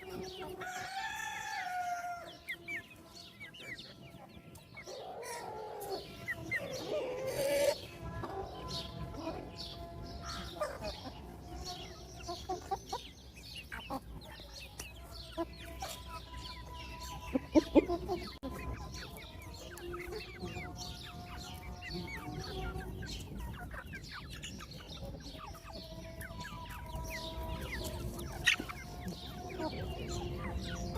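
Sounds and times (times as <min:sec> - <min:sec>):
chicks peeping: 0:00.0 - 0:30.9
hens clucking: 0:00.0 - 0:30.9.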